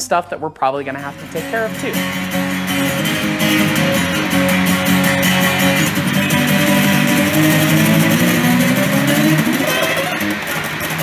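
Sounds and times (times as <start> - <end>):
acoustic guitar: 0.7 - 11.0.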